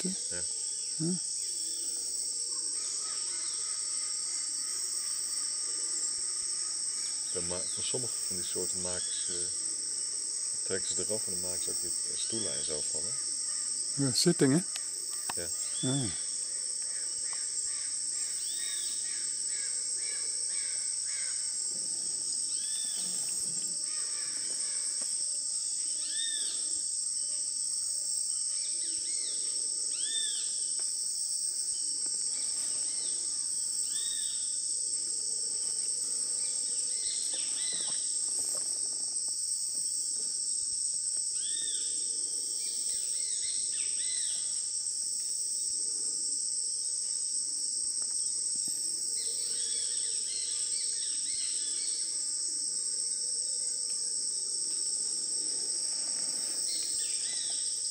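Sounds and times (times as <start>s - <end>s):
shrill insect chorus: 0.0s - 57.9s.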